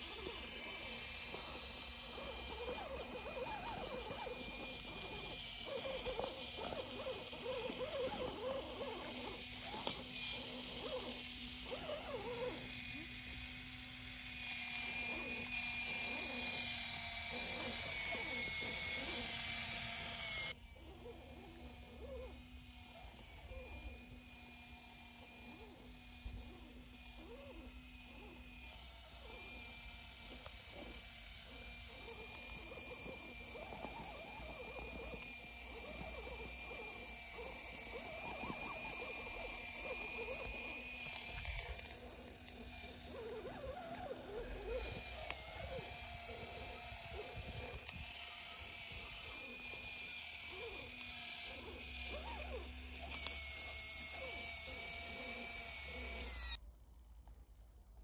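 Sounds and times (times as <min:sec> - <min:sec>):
small electric motor whining: 0:00.0 - 0:56.6.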